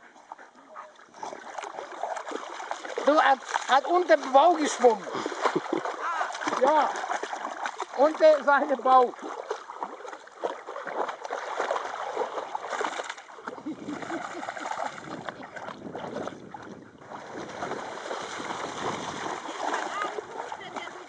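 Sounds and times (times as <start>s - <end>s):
dogs splashing through water: 0.0s - 21.0s.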